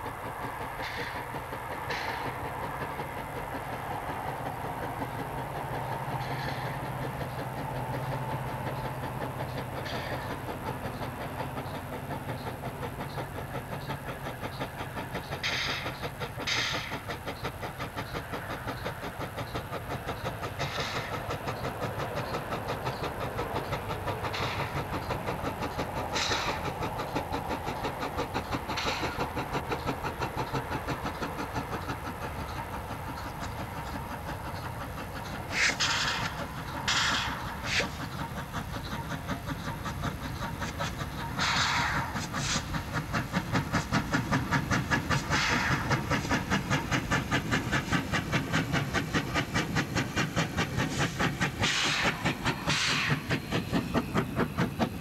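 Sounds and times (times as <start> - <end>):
steam hissing: 0.0 - 55.0
steam locomotive exhaust beating: 0.0 - 55.0.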